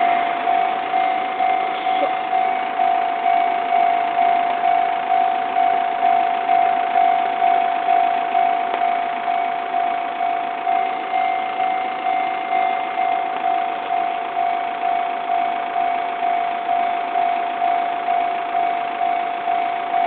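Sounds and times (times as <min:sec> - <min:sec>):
level crossing alarm bell: 0:00.0 - 0:20.0.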